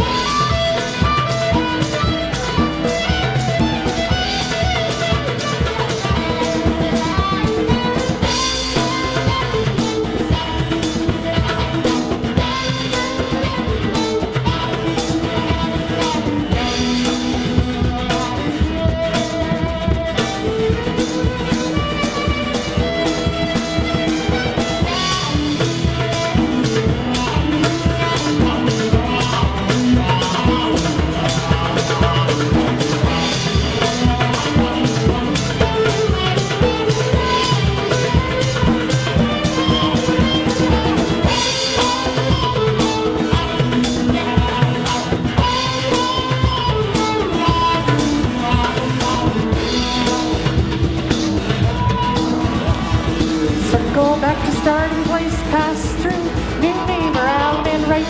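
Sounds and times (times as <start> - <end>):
drum kit beat: 0.0 - 58.0
fiddle melody: 0.0 - 58.0.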